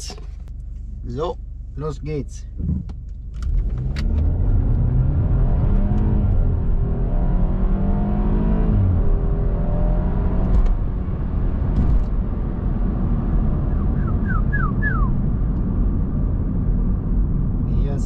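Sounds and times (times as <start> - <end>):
car engine accelerating: 2.5 - 18.0.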